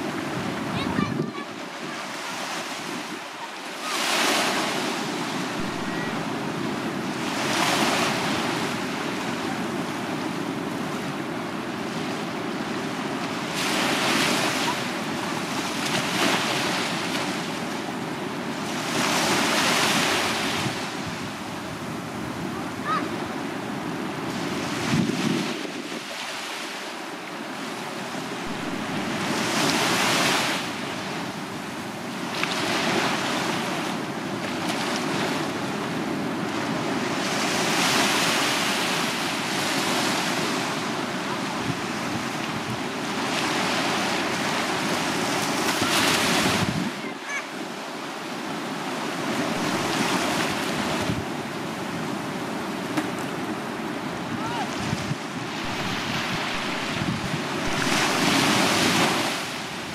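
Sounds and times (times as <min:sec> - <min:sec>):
waves washing up a sandy beach: 0:00.0 - 0:59.9.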